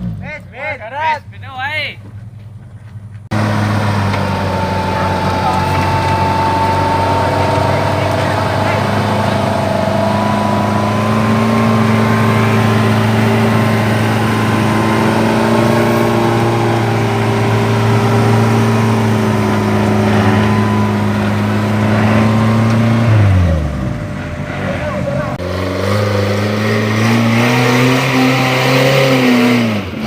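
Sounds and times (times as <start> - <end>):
vehicle engine revving: 3.0 - 30.0.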